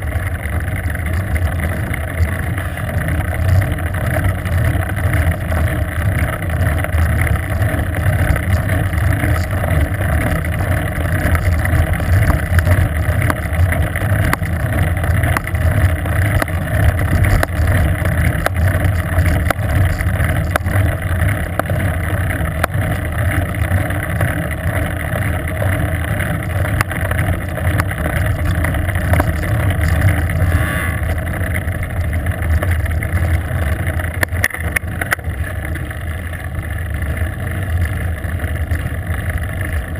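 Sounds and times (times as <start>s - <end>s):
low road rumble: 0.0s - 39.9s.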